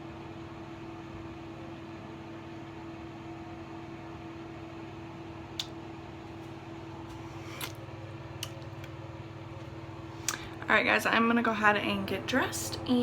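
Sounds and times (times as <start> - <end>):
fan humming: 0.7 - 13.0.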